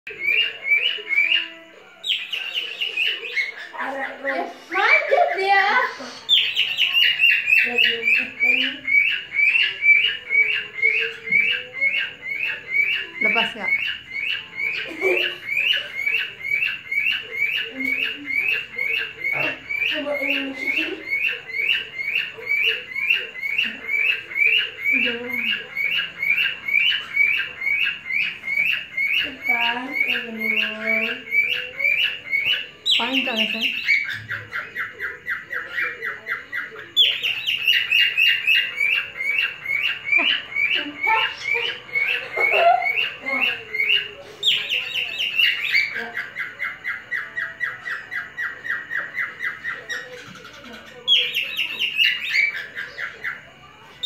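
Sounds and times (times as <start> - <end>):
cockatiel chirping: 0.1 - 54.0.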